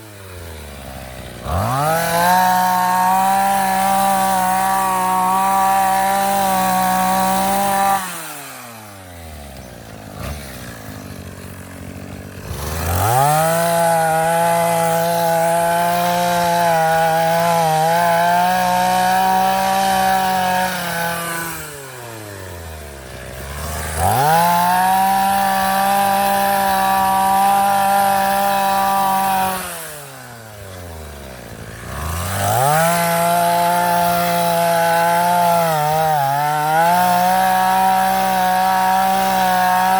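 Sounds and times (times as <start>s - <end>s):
two-stroke auger engine revving: 0.0s - 39.9s.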